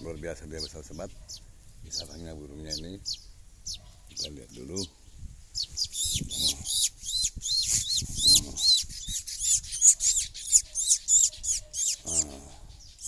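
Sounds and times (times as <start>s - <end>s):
nestling bird chirping: 0.0s - 13.0s.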